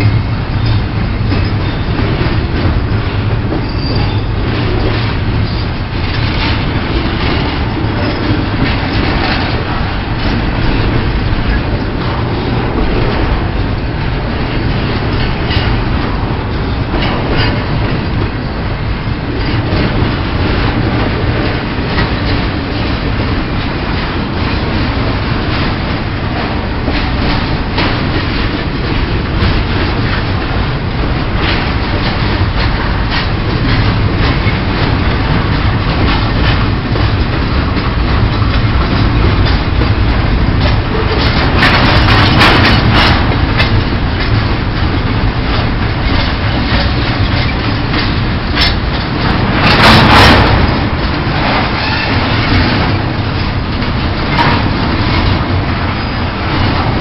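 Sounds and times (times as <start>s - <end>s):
train wheels rumbling on rail: 0.0s - 57.0s
wheels clacking on rail joints: 0.0s - 57.0s.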